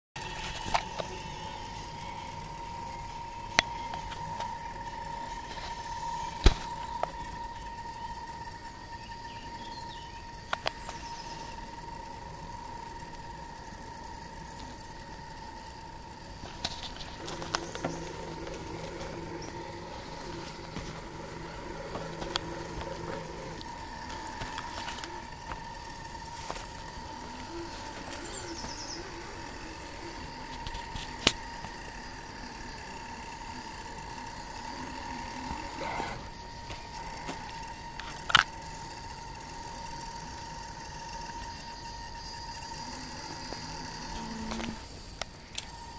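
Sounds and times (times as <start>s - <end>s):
electric motor whine: 0.0s - 45.9s
deeper hum: 0.2s - 45.9s.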